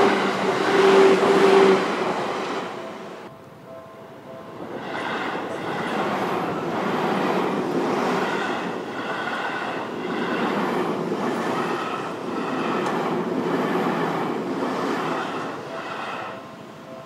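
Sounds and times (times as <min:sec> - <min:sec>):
train passing close by: 0:00.0 - 0:17.0.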